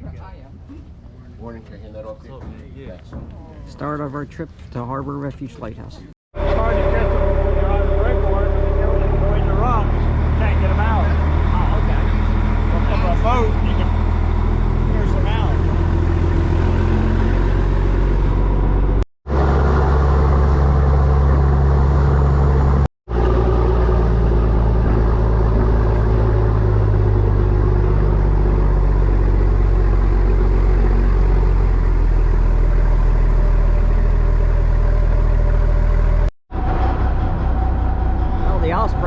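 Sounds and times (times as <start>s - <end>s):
motorboat engine running: 6.4s - 39.0s.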